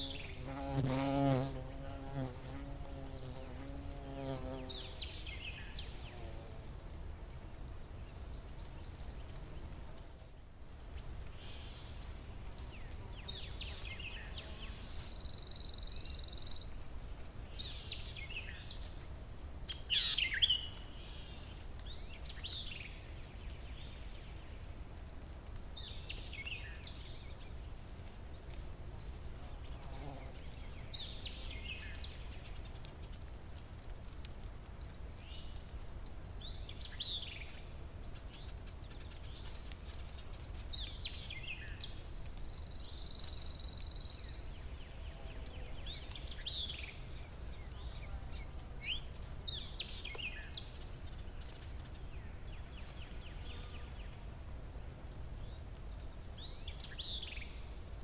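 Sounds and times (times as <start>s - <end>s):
songbird singing: 0.0s - 19.0s, 19.7s - 58.0s.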